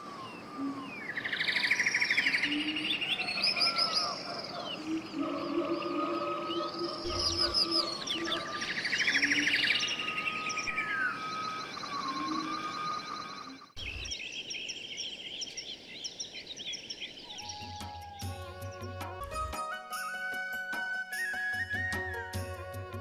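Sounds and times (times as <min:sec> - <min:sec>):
birds chirping and whistling: 0:00.0 - 0:23.0.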